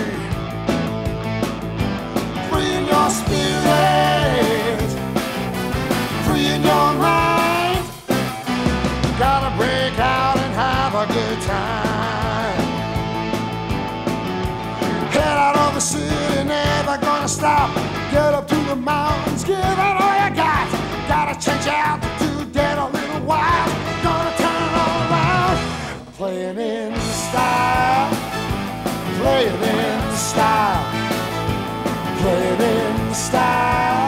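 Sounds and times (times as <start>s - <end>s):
rock music with singing: 0.0s - 34.0s.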